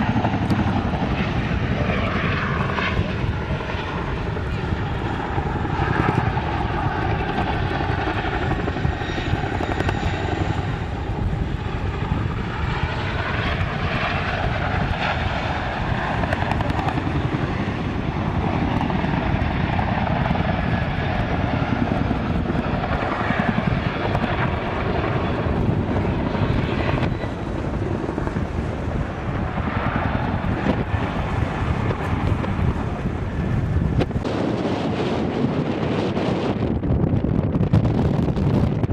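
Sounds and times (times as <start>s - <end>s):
aircraft engine noise: 0.0s - 38.9s.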